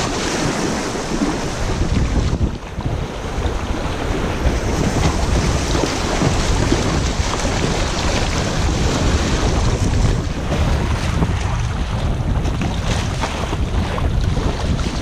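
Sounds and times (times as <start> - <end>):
rushing river water: 0.0 - 15.0
wind rumbling on microphone: 0.0 - 15.0.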